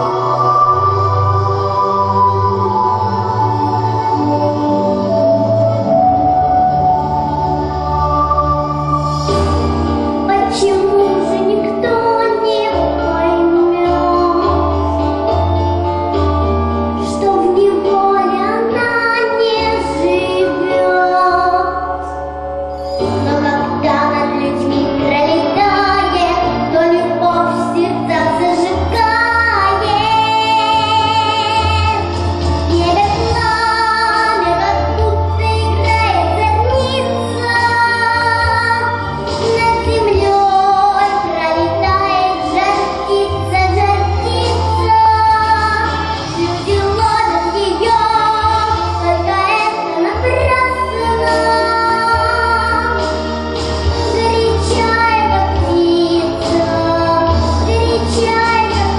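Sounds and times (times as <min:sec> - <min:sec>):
girl singing pop song: 0:05.5 - 0:15.3, 0:16.8 - 0:58.9.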